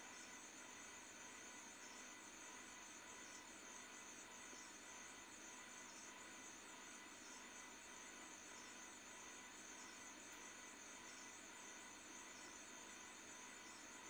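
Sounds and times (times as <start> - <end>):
crickets trilling: 0.1 - 14.0.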